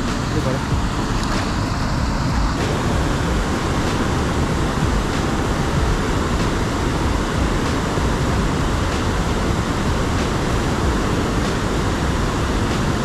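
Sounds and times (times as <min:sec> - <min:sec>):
low rumble: 0:00.0 - 0:13.0
river water rushing: 0:00.0 - 0:13.0.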